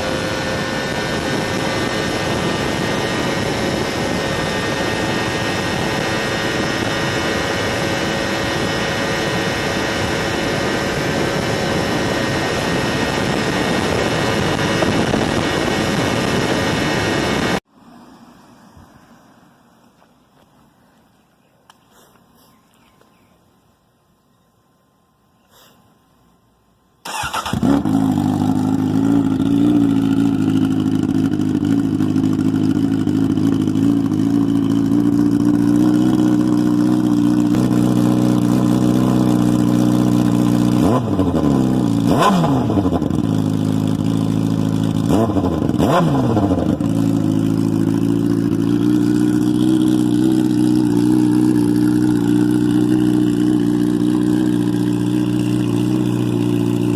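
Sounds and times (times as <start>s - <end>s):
motorcycle engine at high revs: 0.0s - 17.7s, 27.1s - 56.9s.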